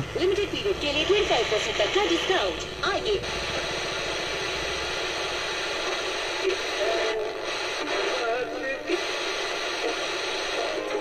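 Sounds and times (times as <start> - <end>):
radio static hiss: 0.0 - 11.0
song with singing voice on radio: 0.0 - 11.0.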